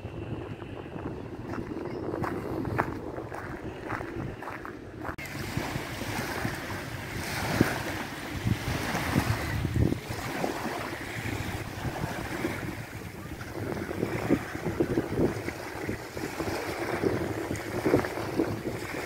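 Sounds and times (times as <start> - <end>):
wind buffeting microphone: 0.0 - 19.0
small waves lapping on sand: 2.2 - 19.0.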